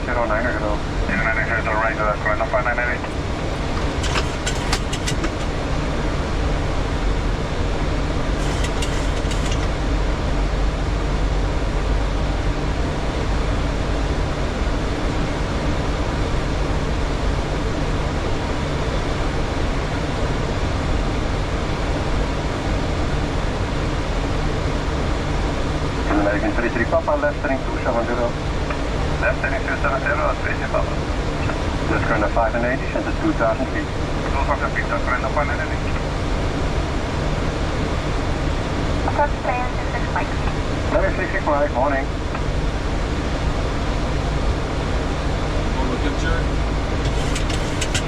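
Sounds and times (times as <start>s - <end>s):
airflow and engine rumble: 0.0s - 48.0s.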